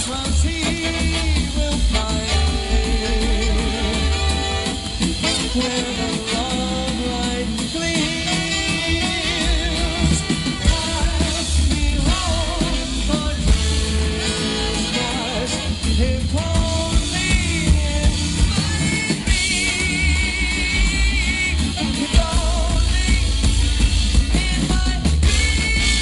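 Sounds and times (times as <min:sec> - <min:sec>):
big band playing: 0:00.0 - 0:26.0.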